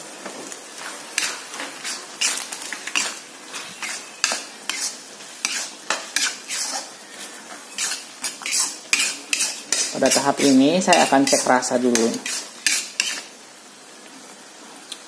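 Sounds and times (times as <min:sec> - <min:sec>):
food sizzling: 0:00.0 - 0:15.0
metal spatula scraping a wok: 0:00.8 - 0:13.3.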